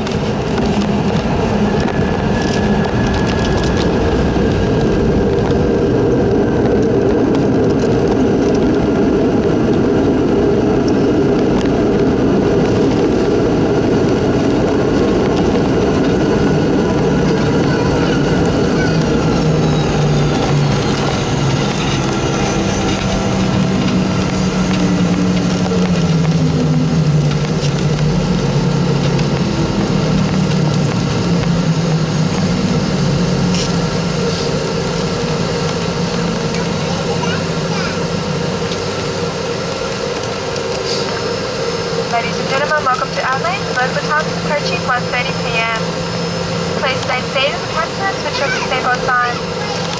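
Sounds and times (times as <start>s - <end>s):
aircraft cabin rumble: 0.0s - 49.9s
low engine hum wavering: 0.0s - 49.9s.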